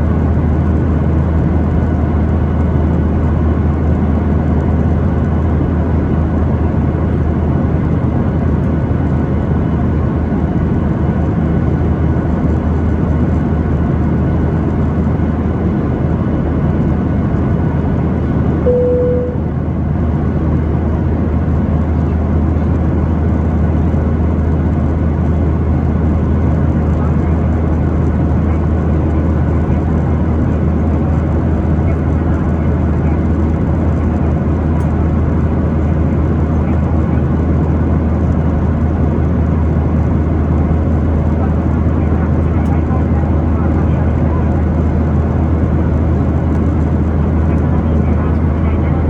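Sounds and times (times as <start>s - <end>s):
airplane cabin engine rumble: 0.0s - 49.0s.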